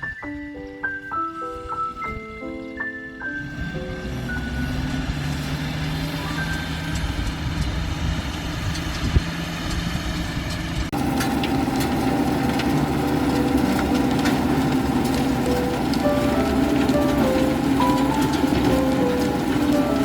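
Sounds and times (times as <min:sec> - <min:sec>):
tractor engine running: 0:02.7 - 0:20.0.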